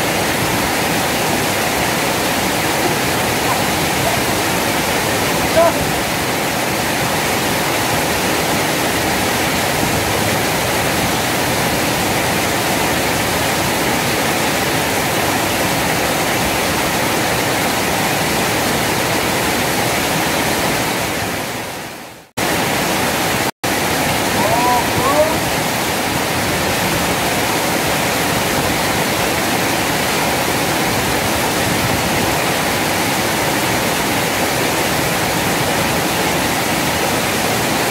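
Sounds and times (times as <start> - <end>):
water rushing over a weir: 0.0 - 37.9.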